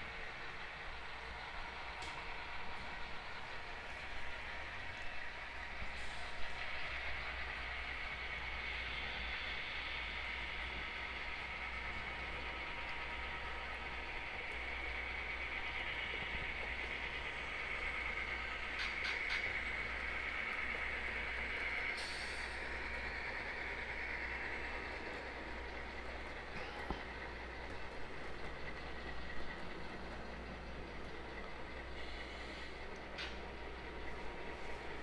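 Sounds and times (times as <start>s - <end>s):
model train motor whine: 0.0s - 35.0s
model train wheels rolling: 0.0s - 35.0s.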